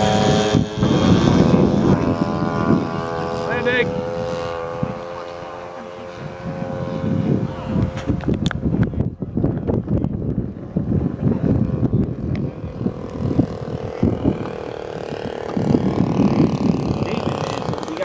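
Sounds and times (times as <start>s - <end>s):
model airplane engine droning: 0.0s - 18.0s
wind rumble on microphone: 0.0s - 18.0s.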